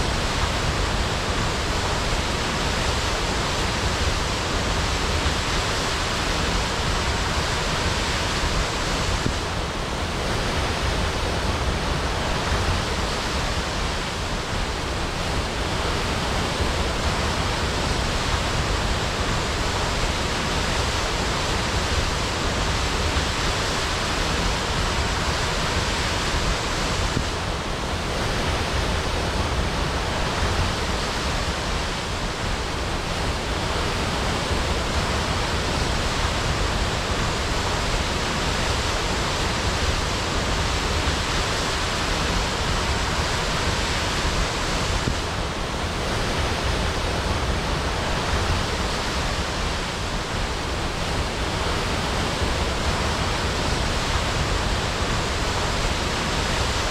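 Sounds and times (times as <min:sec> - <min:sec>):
waterfall crashing: 0:00.0 - 0:56.9.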